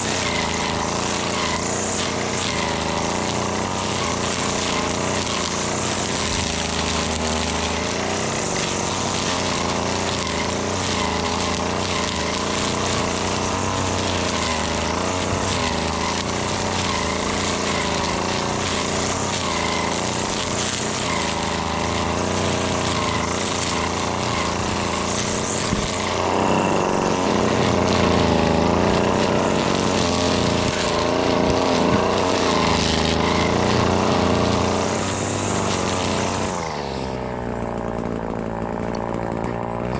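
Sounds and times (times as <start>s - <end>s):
string trimmer engine cutting: 0.0s - 39.9s.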